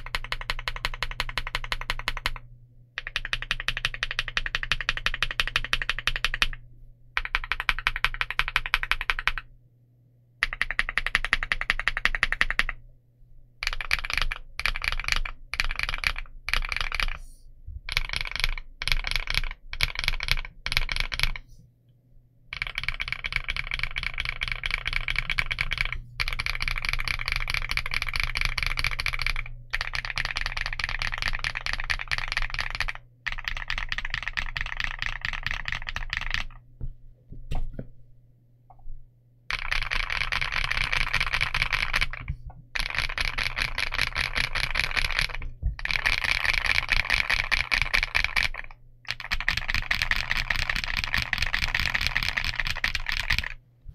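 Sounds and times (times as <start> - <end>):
mechanical keyboard typing: 0.0 - 6.6, 7.2 - 9.5, 10.4 - 12.8, 13.6 - 17.3, 17.9 - 21.5, 22.5 - 36.6, 39.5 - 53.6.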